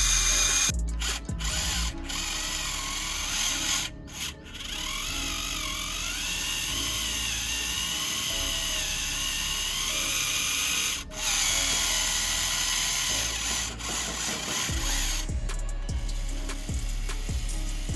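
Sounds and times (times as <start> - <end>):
electric motor whining under load: 0.0 - 15.4.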